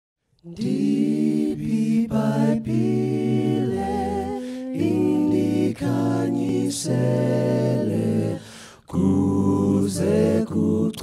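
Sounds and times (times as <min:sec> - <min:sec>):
vocal group singing a hymn: 0:00.4 - 0:11.0.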